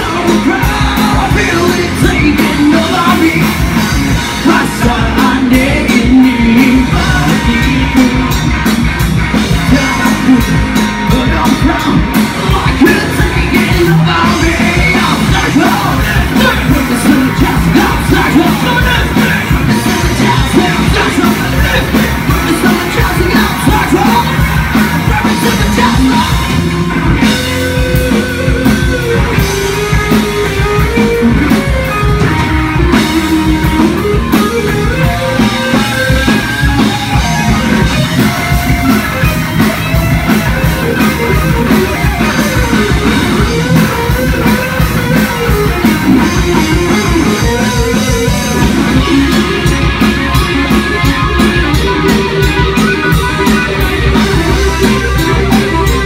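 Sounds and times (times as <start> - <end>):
distorted electric guitars: 0.0 - 56.0
melodic lead line: 0.0 - 56.0
rock band playing live: 0.0 - 56.0.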